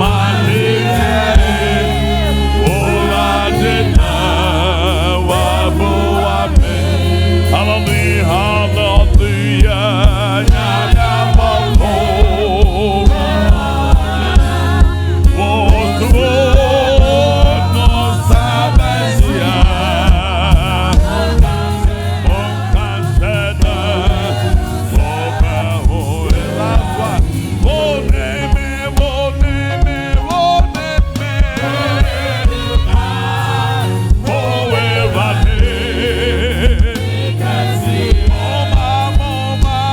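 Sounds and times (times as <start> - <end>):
band with bass drum beat: 0.0 - 39.9
group singing gospel song: 0.0 - 39.9.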